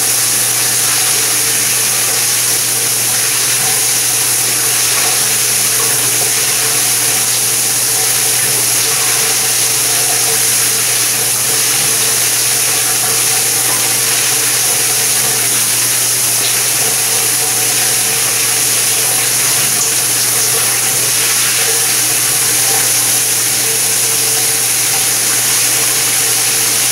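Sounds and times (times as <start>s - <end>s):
shower head spraying water: 0.0s - 26.9s.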